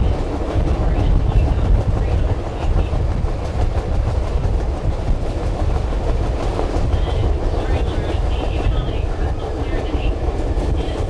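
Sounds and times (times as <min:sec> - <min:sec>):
train rumbling: 0:00.0 - 0:11.0
wheels clicking over rails: 0:00.0 - 0:11.0.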